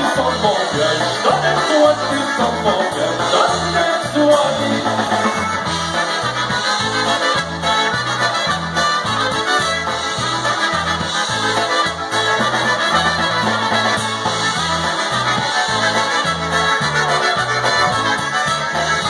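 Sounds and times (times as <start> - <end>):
accordion: 0.0 - 19.0
bouncing bass line: 0.0 - 19.0
polka band playing: 0.0 - 19.0
trumpets: 0.0 - 19.0.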